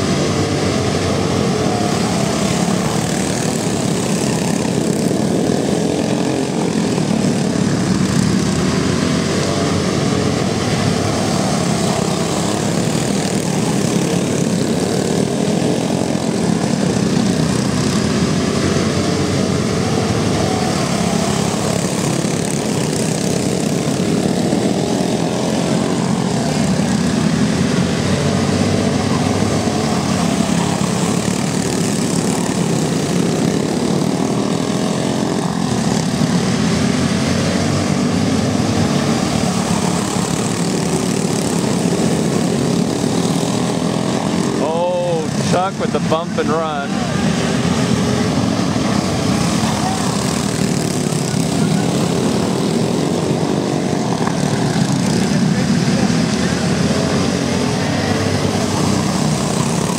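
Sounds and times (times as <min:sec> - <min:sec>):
go-kart engines racing: 0:00.0 - 0:59.9.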